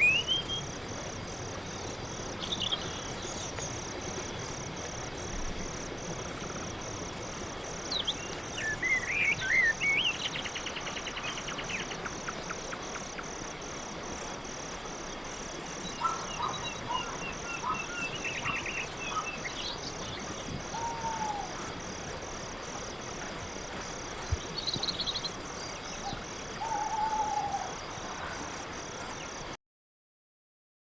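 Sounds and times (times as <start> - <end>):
crickets chirping: 0.0 - 29.6.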